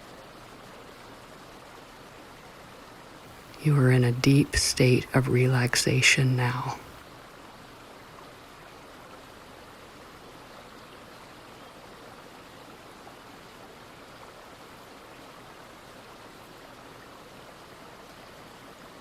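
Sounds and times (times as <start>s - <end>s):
brook running water: 0.0s - 19.0s.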